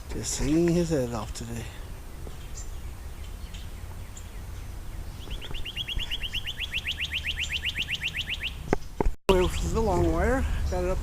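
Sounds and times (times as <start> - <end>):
faint bird chirps: 1.4 - 11.0.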